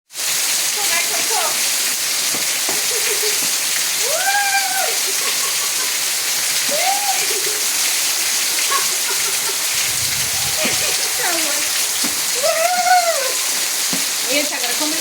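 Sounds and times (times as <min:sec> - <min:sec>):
loud rain falling: 0:00.1 - 0:15.0.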